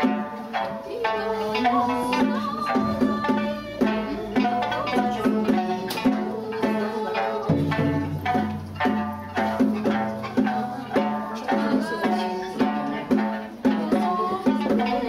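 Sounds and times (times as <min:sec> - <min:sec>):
plucked lutes: 0:00.0 - 0:15.0
small drum strokes: 0:00.0 - 0:15.0.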